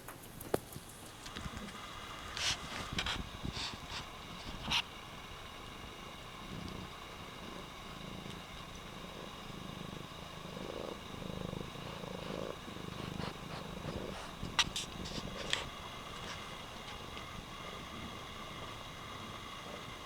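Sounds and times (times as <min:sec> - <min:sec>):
cat purring: 0:00.3 - 0:20.0.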